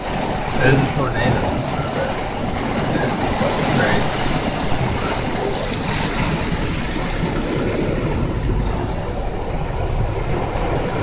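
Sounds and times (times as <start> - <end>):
heavy rain and wind on car: 0.0 - 11.0.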